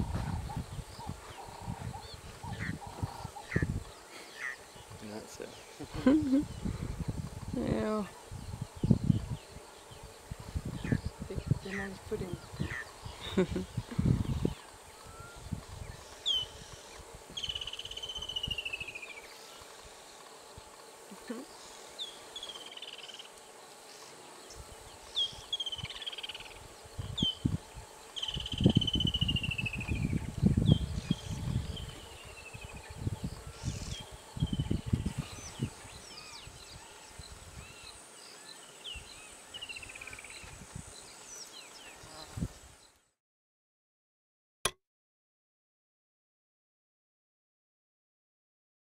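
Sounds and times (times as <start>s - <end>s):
bird calls and chirps: 0.0s - 5.8s, 7.8s - 19.8s, 21.2s - 43.0s
high insect whine: 0.0s - 42.9s.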